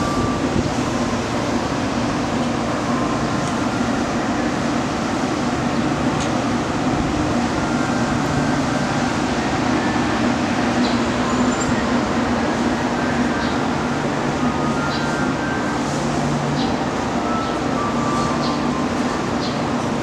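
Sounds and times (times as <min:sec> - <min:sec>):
standing trains humming: 0:00.0 - 0:20.0.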